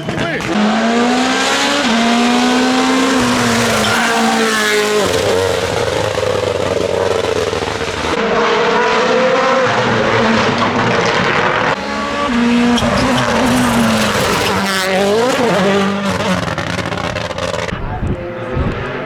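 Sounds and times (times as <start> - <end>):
rally car engines at high revs: 0.0 - 19.0
tyre noise: 0.0 - 19.0.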